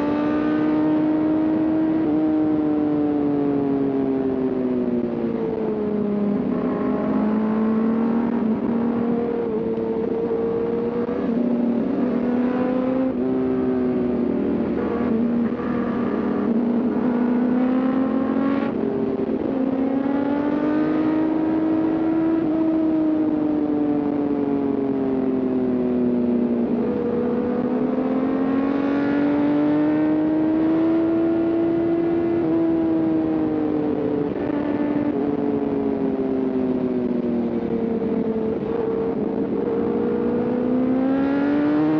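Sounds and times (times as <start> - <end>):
motorcycle engine revving: 0.0 - 3.6, 5.0 - 23.1, 26.4 - 41.9.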